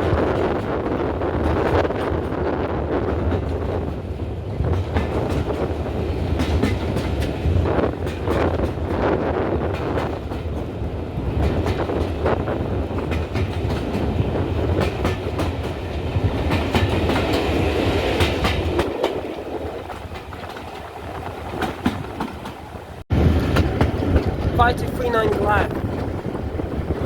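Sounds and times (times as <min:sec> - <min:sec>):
train rumble: 0:00.0 - 0:27.0
wheels clicking over rail joints: 0:00.0 - 0:27.0.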